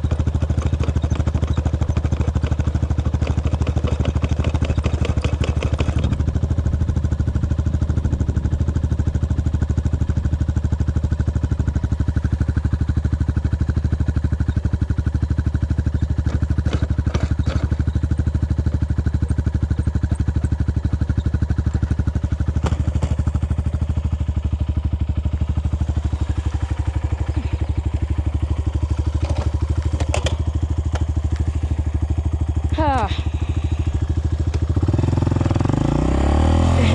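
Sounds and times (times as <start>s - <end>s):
dirt bike engine running: 0.0s - 36.9s.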